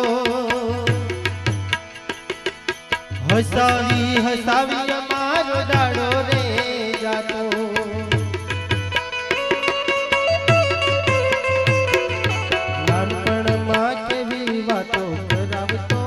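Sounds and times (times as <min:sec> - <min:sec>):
melodic line with sliding notes: 0:00.0 - 0:15.7
harmonium: 0:00.0 - 0:16.0
tabla strokes: 0:00.0 - 0:16.0.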